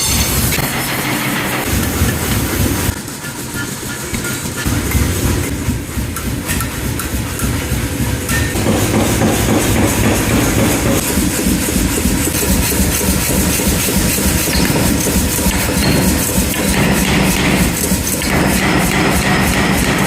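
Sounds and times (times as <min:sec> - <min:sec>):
power hammer pounding iron: 0:00.0 - 0:20.0.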